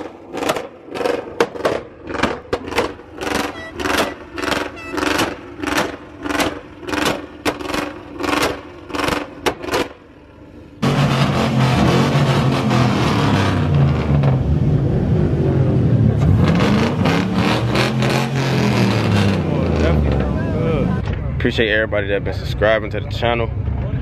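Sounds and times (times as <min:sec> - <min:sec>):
loud vehicle engine running: 0:00.0 - 0:24.0.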